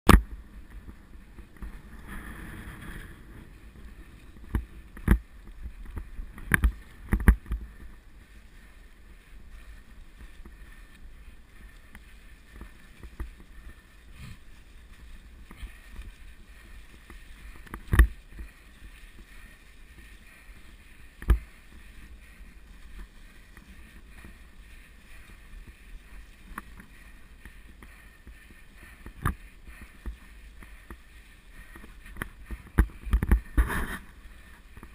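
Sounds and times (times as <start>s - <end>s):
muffled rumble of tyres and air: 0.1s - 34.9s.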